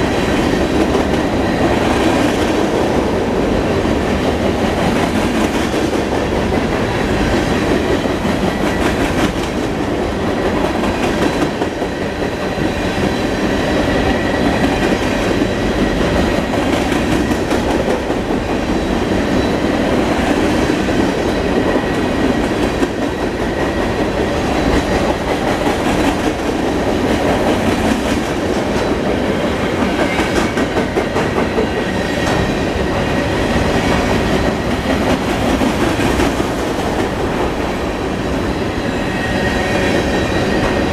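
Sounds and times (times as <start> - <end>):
freight train rumble: 0.0 - 40.9.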